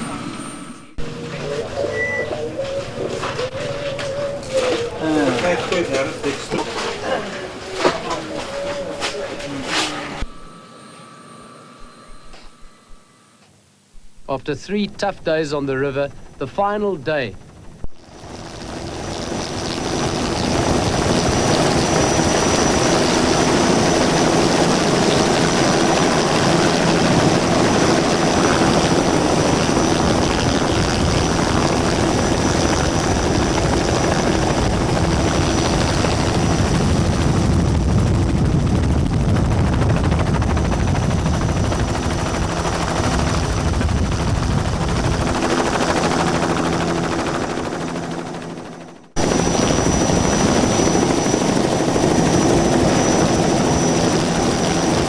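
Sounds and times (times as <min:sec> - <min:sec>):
helicopter engine and rotor: 0:00.0 - 0:13.2, 0:14.6 - 0:55.0.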